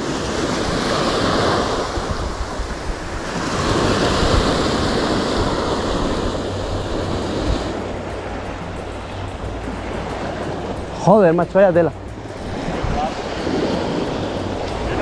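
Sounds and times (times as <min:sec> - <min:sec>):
sea surf washing ashore: 0:00.0 - 0:15.0
wind rumbling on microphone: 0:00.0 - 0:15.0.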